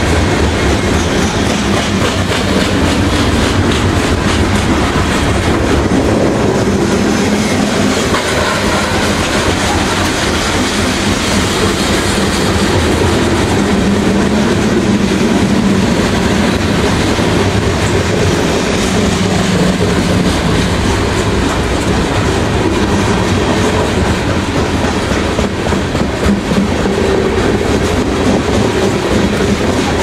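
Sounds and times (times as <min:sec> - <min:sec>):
freight train wheels on rails: 0:00.0 - 0:30.0.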